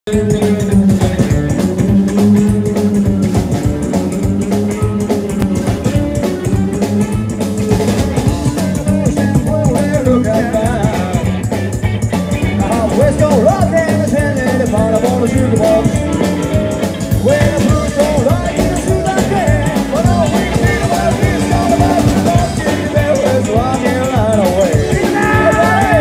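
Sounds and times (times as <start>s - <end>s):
rockabilly band playing: 0.1s - 26.0s
voices singing: 0.1s - 26.0s.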